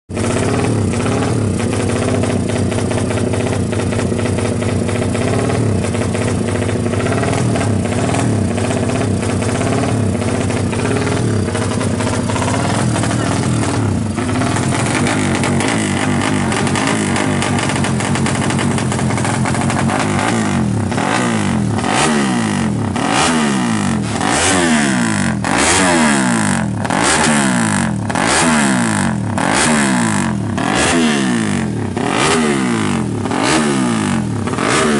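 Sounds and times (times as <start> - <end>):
motorcycle engine idling: 0.1 - 34.9
engine revving in blips: 5.2 - 34.9.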